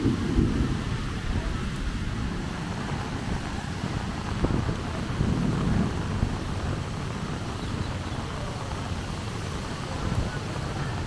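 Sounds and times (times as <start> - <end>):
passing vehicles rumbling: 0.0 - 11.0
rain noise: 0.0 - 11.0.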